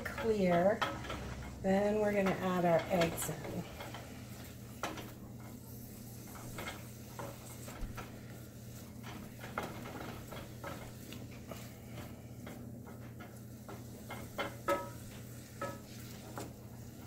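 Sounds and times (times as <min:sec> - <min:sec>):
wooden spoon scraping a pan: 0:00.0 - 0:17.0.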